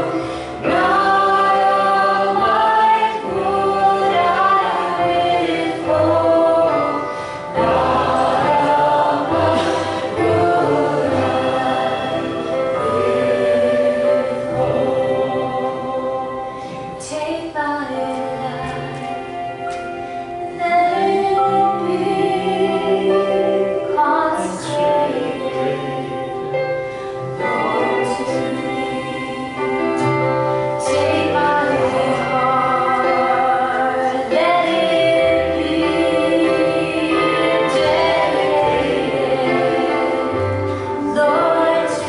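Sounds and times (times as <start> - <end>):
held instrumental chords: 0.0 - 42.0
voices singing a hymn: 0.0 - 42.0.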